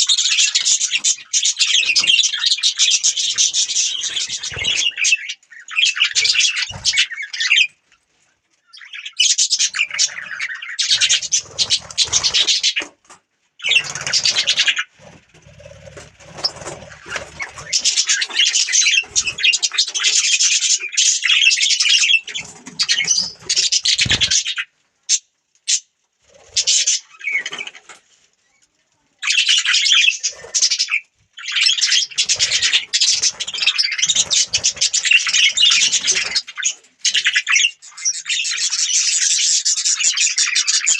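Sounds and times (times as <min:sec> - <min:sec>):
budgerigars chattering and chirping: 0:00.0 - 0:07.8, 0:08.7 - 0:12.9, 0:13.6 - 0:25.8, 0:26.4 - 0:27.9, 0:29.2 - 0:40.9.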